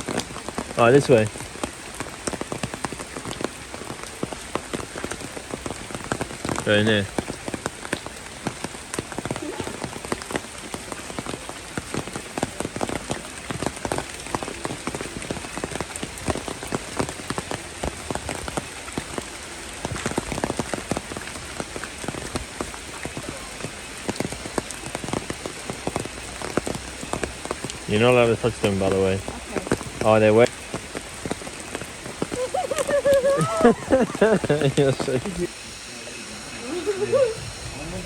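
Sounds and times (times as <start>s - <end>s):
rain on hard surfaces: 0.0s - 38.0s.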